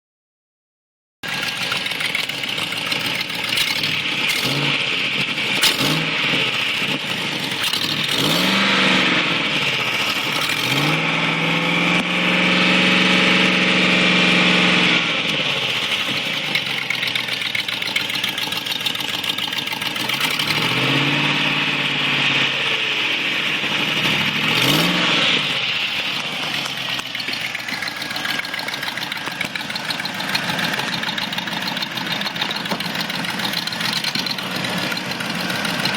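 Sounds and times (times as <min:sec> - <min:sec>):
car engine revving: 0:01.2 - 0:35.9.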